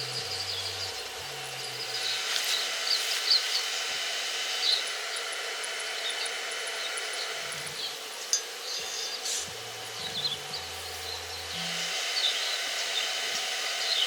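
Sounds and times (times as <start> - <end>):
arc welding hiss and crackle: 0.0 - 14.0.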